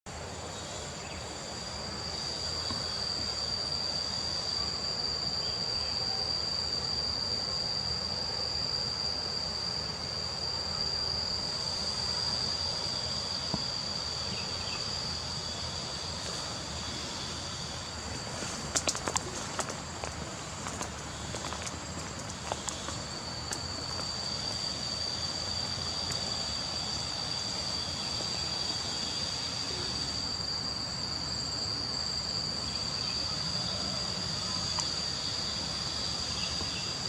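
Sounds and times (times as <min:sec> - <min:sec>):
faint outdoor background noise: 0:00.1 - 0:37.0
high-pitched insect chorus: 0:00.1 - 0:37.0.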